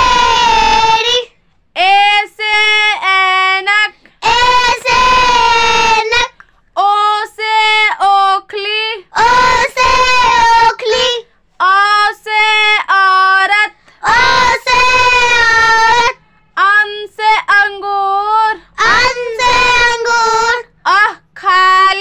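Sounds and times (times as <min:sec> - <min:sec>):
child chanting in sung phrases: 0:00.0 - 0:22.0.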